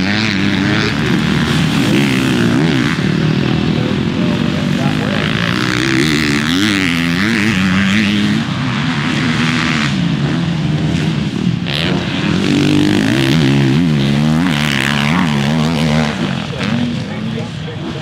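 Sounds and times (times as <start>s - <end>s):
motocross engines revving: 0.0s - 18.0s.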